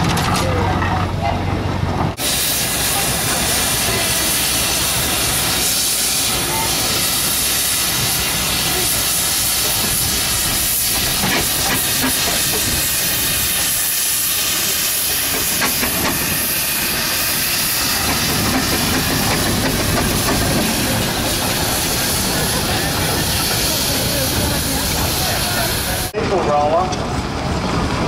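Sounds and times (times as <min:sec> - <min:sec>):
steam engine hissing: 0:02.2 - 0:26.2.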